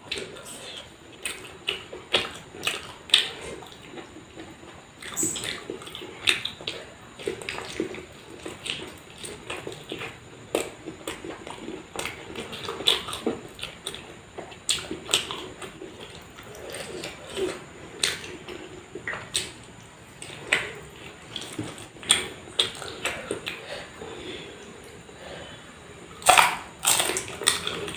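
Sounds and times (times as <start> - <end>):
person chewing and smacking food: 0.1 - 27.9.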